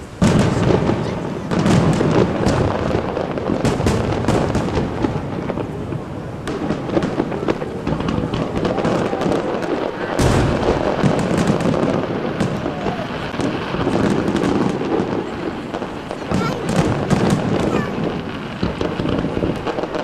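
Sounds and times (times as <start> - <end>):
fireworks bursting and crackling: 0.0 - 20.0
heavy firework bang: 0.0 - 20.0.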